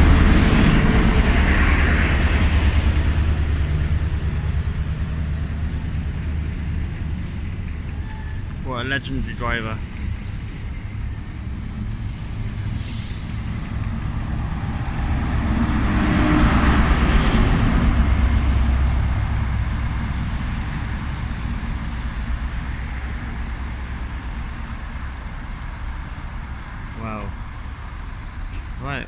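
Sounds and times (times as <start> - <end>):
train engine rumble: 0.0 - 29.0.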